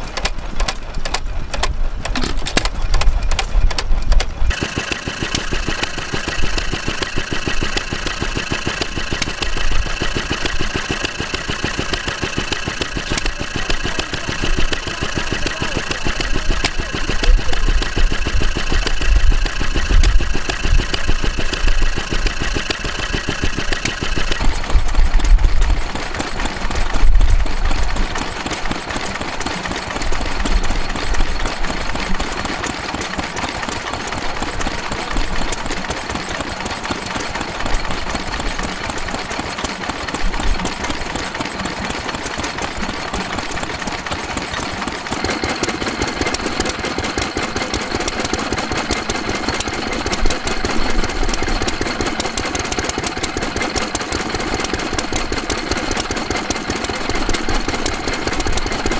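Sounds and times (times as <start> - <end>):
stationary engine running: 0.0 - 58.9.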